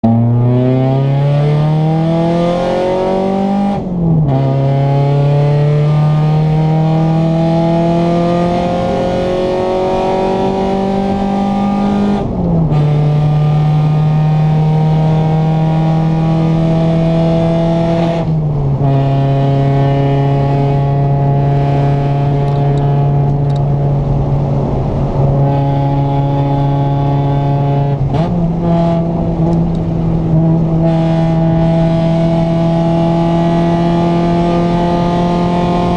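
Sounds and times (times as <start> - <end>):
car exhaust accelerating through gears: 0.0 - 35.9.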